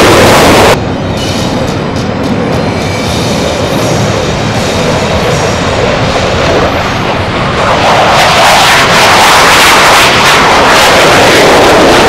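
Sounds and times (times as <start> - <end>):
jet engines roaring on take-off: 0.0 - 12.0.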